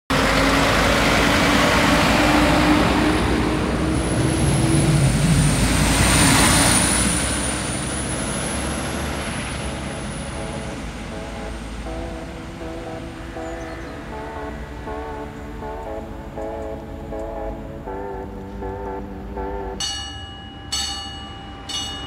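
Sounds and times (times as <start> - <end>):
diesel railcar running past: 0.1 - 22.0.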